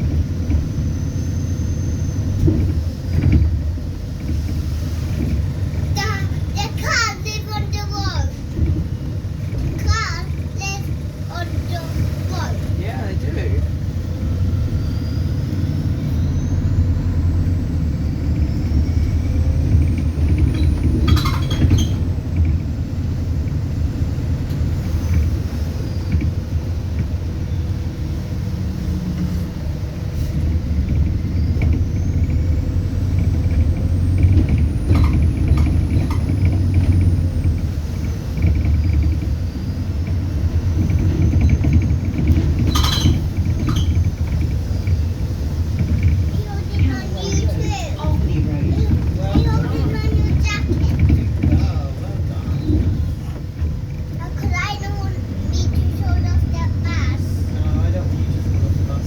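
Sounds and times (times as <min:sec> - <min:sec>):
bus drivetrain rumble: 0:00.0 - 0:59.0
knocks and rattles in bus body: 0:00.0 - 0:59.0.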